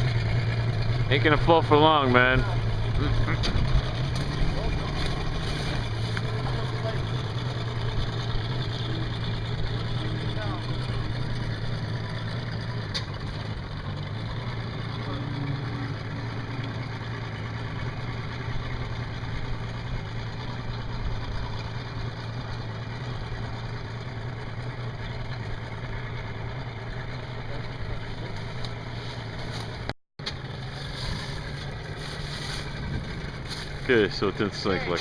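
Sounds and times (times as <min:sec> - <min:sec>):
boat motor idling: 0:00.0 - 0:35.0.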